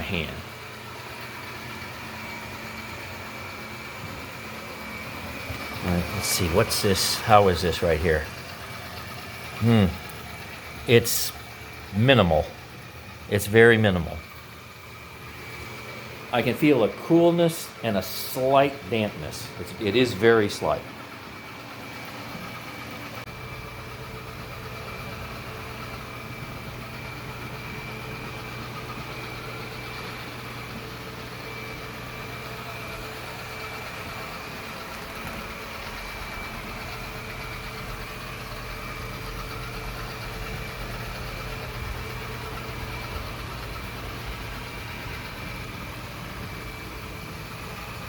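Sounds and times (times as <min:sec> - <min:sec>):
robot vacuum humming: 0:00.0 - 0:48.0.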